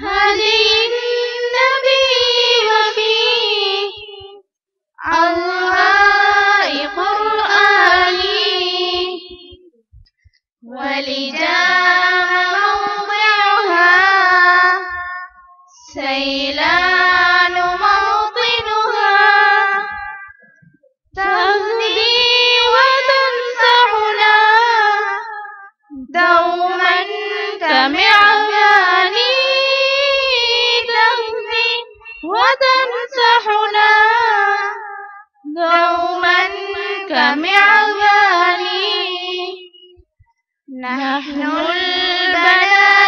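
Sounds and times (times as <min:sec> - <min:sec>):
person singing unaccompanied: 0:00.0 - 0:04.4, 0:05.0 - 0:09.8, 0:10.6 - 0:20.6, 0:21.2 - 0:40.0, 0:40.7 - 0:43.0.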